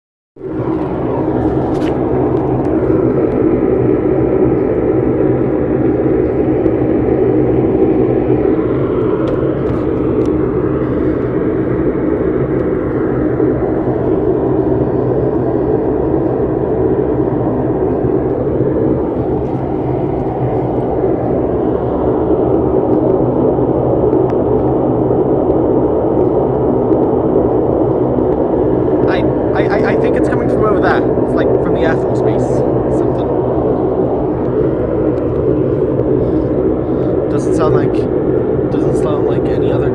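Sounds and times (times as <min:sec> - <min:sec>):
distant jet engine droning: 0:00.4 - 0:39.9.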